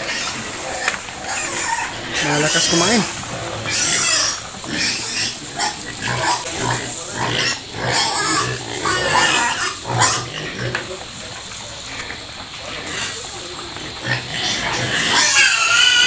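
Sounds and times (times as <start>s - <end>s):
dry pellet feed pouring: 0.0s - 16.0s
pigs grunting and eating: 0.0s - 16.0s.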